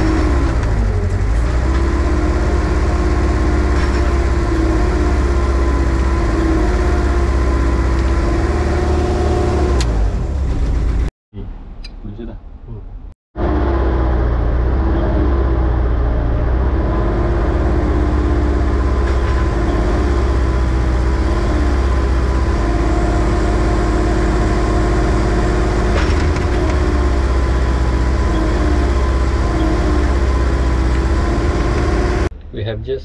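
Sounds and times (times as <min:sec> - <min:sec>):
diesel engine running steadily: 0:00.0 - 0:11.1, 0:13.4 - 0:33.0.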